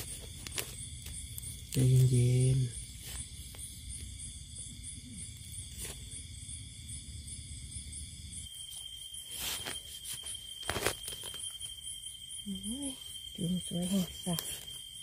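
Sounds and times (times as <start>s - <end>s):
insect trill: 0.0s - 15.0s
pulsing insect chirp: 0.0s - 15.0s.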